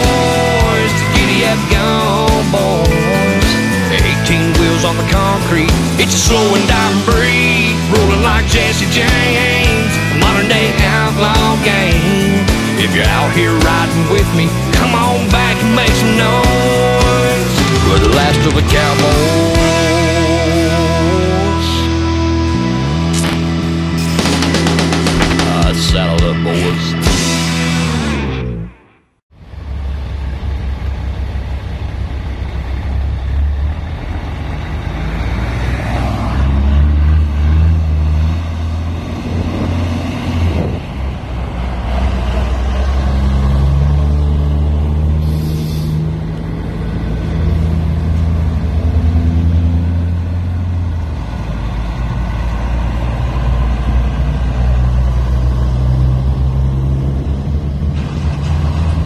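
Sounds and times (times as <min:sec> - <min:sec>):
diesel truck engines pulling away: 0:00.0 - 0:59.0.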